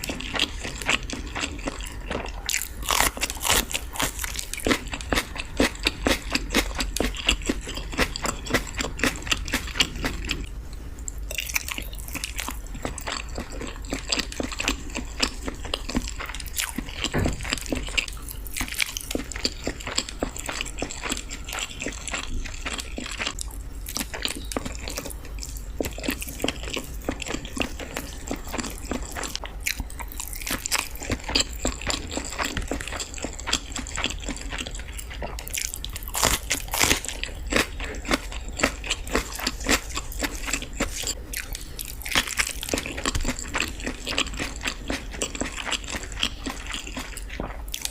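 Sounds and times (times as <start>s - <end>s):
person chewing and biting food: 0.0s - 47.9s.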